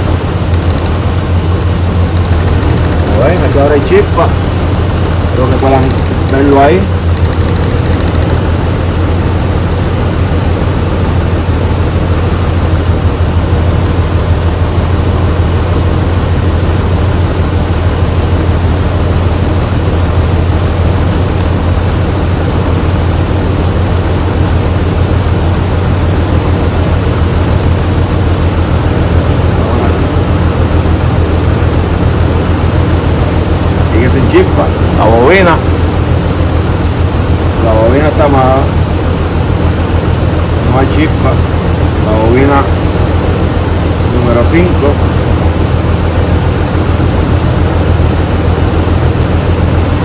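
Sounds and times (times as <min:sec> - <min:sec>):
car engine idling with misfire: 0:00.0 - 0:50.0.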